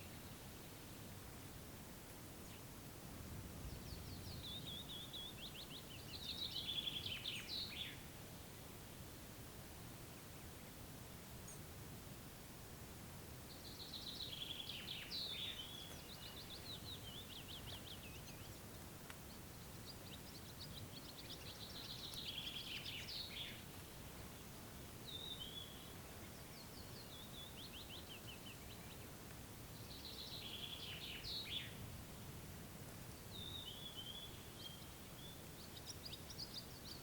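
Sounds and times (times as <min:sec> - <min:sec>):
songbird singing: 0:00.0 - 0:11.8, 0:13.4 - 0:37.0
faint low outdoor rumble: 0:00.0 - 0:37.0.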